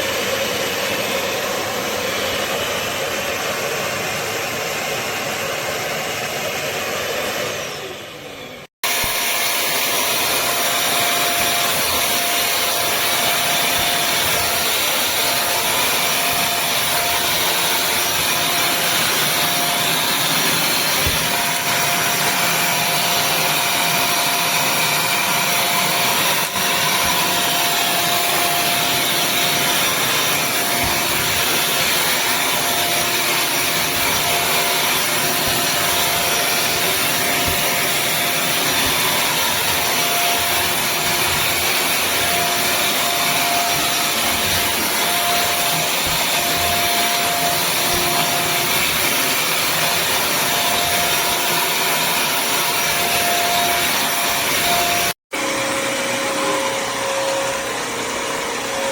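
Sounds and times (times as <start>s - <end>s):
vacuum motor whine: 0.0s - 58.9s.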